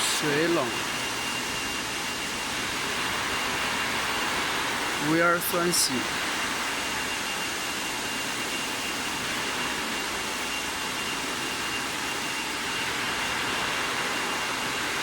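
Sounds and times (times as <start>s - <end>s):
factory machinery running: 0.0s - 15.0s
faint high whine: 0.0s - 15.0s.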